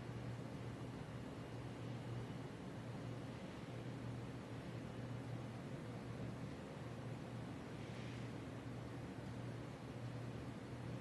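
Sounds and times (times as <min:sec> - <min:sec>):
air conditioner hum and hiss: 0:00.0 - 0:11.0.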